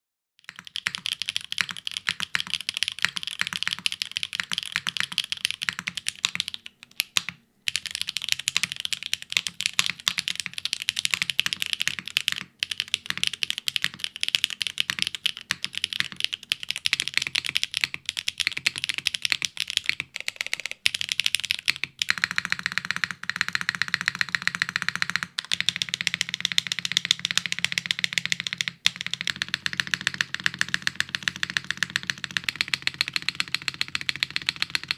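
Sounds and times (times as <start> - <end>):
fast mechanical keyboard typing: 0.4 - 34.9.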